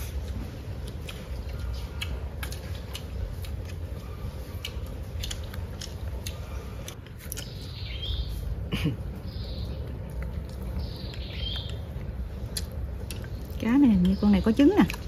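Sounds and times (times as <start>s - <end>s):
chewing: 0.0s - 7.8s, 9.7s - 15.0s
low steady hum: 0.0s - 15.0s.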